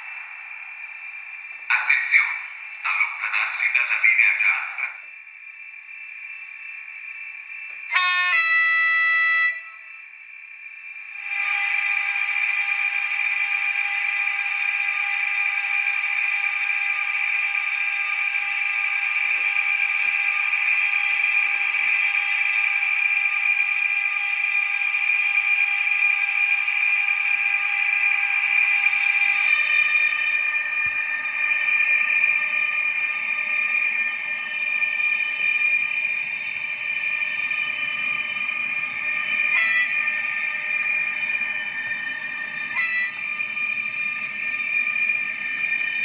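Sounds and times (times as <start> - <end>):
model locomotive tinny running tone: 0.0 - 46.0.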